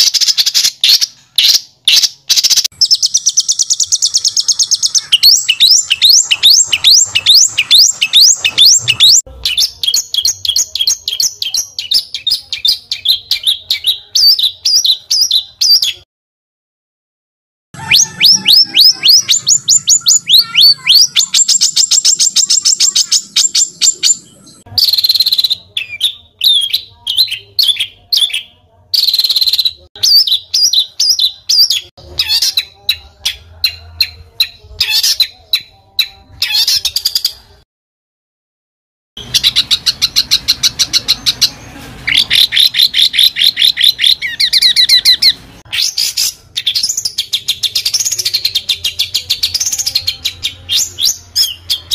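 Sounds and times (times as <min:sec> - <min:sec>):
songbird singing: 0:00.0 - 0:16.0, 0:17.8 - 0:37.4, 0:39.2 - 0:51.9.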